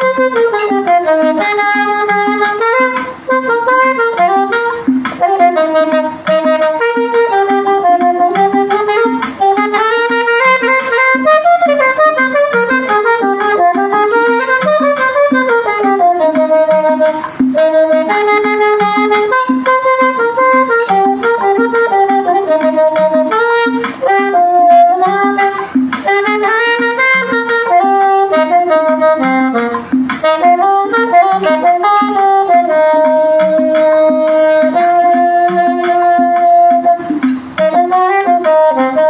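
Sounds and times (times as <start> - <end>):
rhythmic backing track: 0.0 - 39.0
saxophone playing hymn melody: 0.0 - 39.0.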